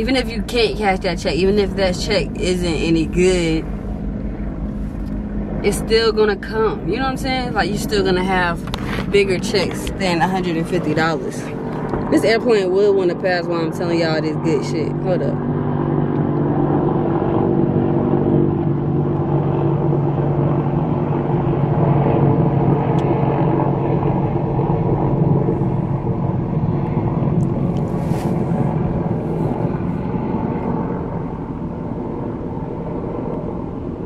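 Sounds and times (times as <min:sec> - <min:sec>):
airplane rumble heard from car: 0:00.0 - 0:34.0.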